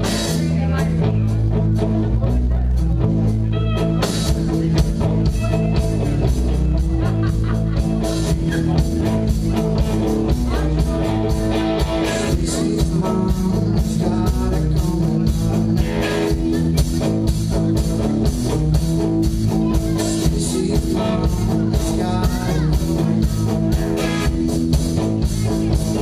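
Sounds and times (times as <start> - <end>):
guitar: 0.0 - 26.0
rock band playing: 0.0 - 26.0
steady drum beat: 0.0 - 26.0.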